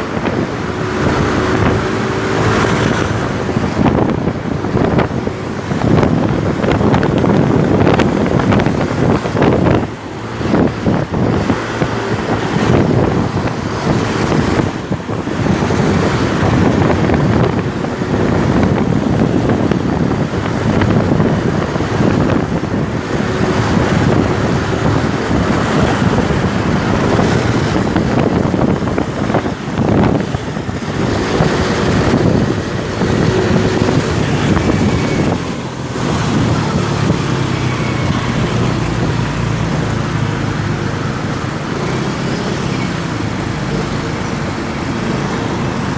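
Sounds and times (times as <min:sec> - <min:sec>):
motorcycle engine running: 0:00.0 - 0:45.9
road noise: 0:00.0 - 0:45.9
wind buffeting microphone: 0:00.0 - 0:45.9.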